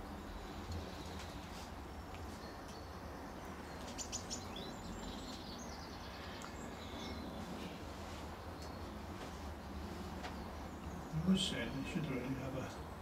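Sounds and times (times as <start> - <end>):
low background noise: 0.0 - 13.0
small birds singing: 0.0 - 13.0.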